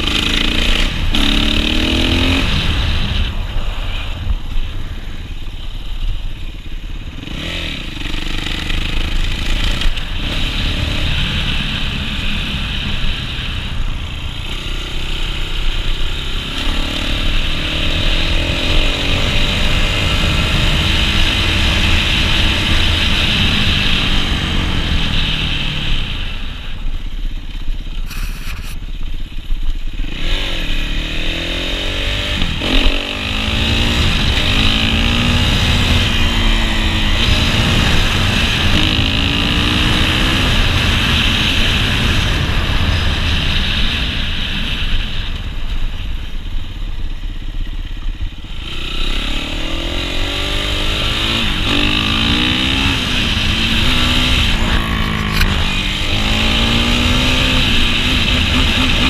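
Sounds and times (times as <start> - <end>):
dirt bike engine revving: 0.0 - 4.1, 7.1 - 26.4, 30.0 - 45.0, 48.4 - 59.0
wind noise: 0.0 - 59.0.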